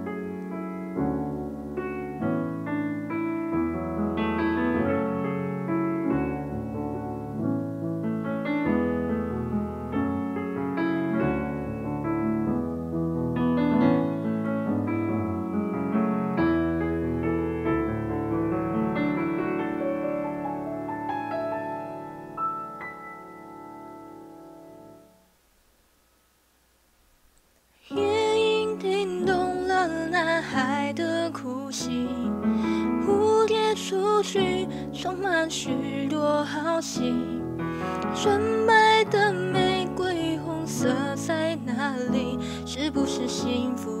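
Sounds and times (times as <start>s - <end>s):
piano melody over chords: 0.0s - 25.5s, 27.9s - 44.0s.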